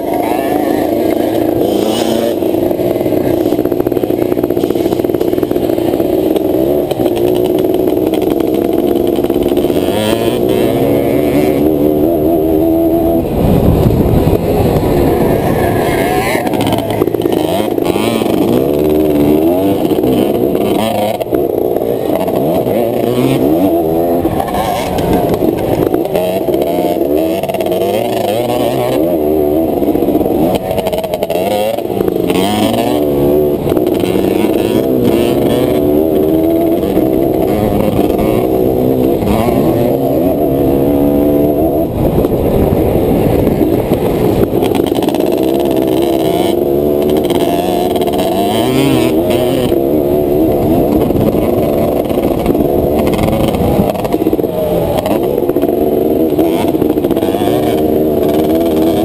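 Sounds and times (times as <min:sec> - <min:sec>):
two-stroke engine revving: 0:00.0 - 0:59.0.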